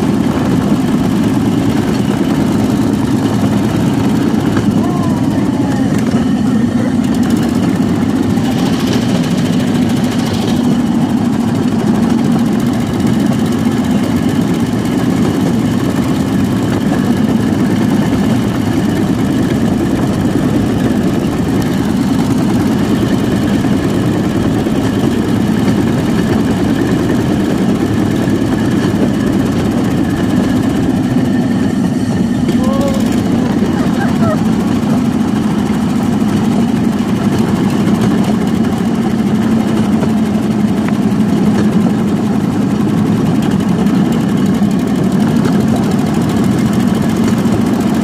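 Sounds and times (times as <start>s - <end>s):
single-cylinder engine running loudly: 0.0s - 48.0s.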